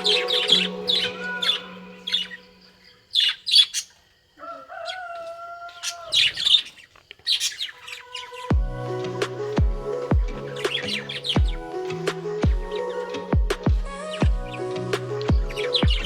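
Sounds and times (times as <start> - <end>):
lovebirds chirping: 0.0 - 16.0.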